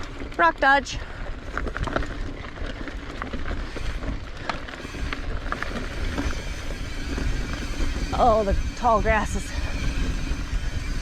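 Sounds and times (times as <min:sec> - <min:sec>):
bike clicks and rattles: 0:00.0 - 0:11.0
tyres crunching over stones: 0:00.0 - 0:11.0
wind rumble on microphone: 0:00.0 - 0:11.0.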